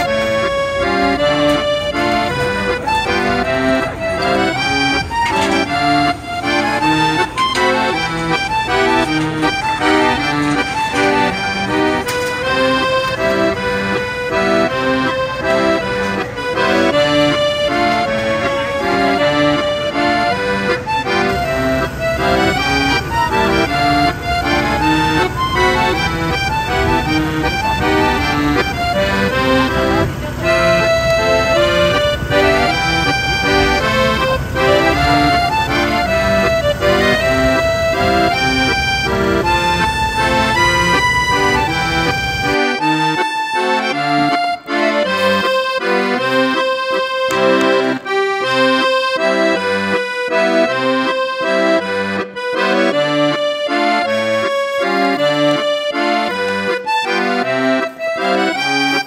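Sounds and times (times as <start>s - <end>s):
instrumental background music: 0.0s - 59.0s.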